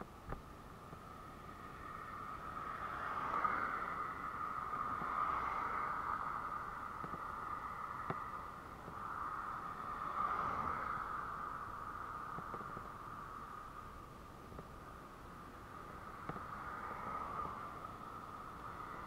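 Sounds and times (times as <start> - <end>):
wind and road noise: 0.0 - 19.0.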